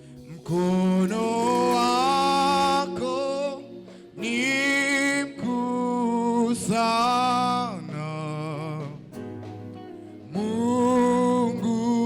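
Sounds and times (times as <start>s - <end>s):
gospel praise singing: 0.0s - 12.0s
instrumental accompaniment: 0.0s - 12.0s.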